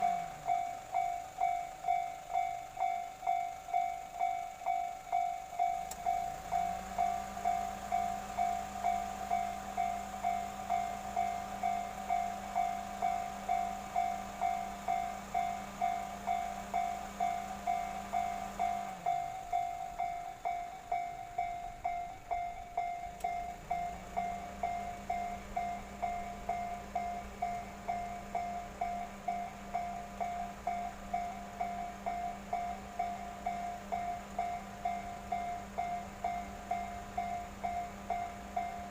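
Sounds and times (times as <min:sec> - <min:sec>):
level crossing bell ringing: 0:00.0 - 0:38.9
low hum: 0:00.0 - 0:38.9
train passing: 0:00.0 - 0:38.9.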